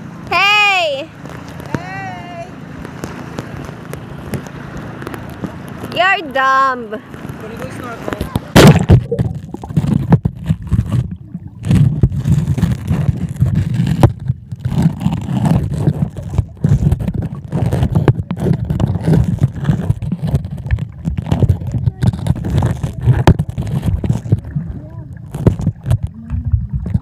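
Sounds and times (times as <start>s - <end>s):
muffled underwater rumbling and sloshing: 0.0s - 27.0s.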